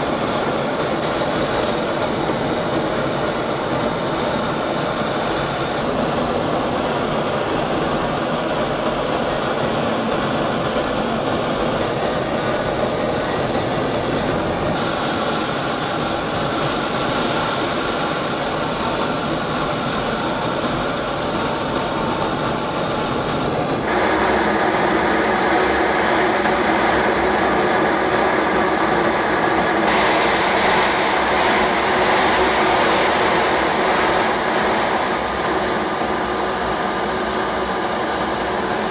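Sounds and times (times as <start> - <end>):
jet engines rushing: 0.0 - 38.9.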